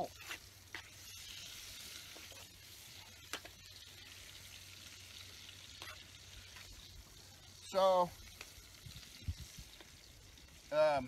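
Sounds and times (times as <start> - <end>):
campfire sizzling: 0.0 - 11.0.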